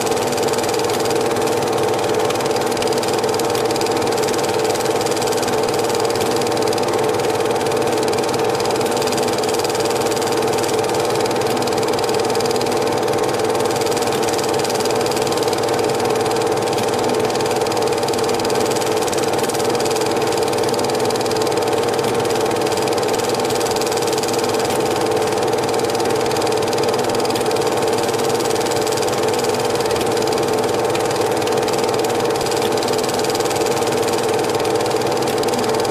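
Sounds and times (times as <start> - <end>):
film projector whirring: 0.0 - 35.9.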